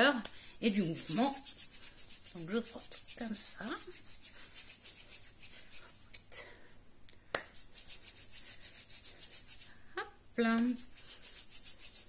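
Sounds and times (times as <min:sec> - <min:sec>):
palms rubbing together: 0:00.2 - 0:06.3, 0:07.4 - 0:09.8, 0:10.6 - 0:12.0.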